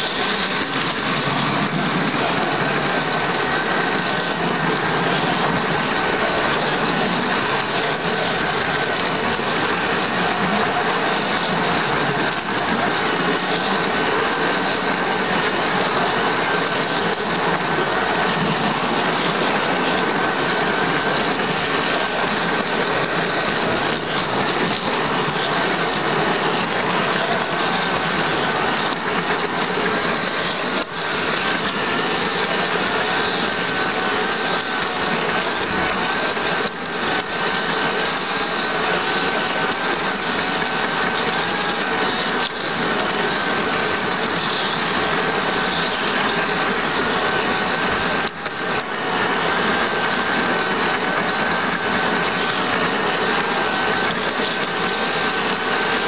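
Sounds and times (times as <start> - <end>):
model locomotive motor whirring: 0.0 - 56.0.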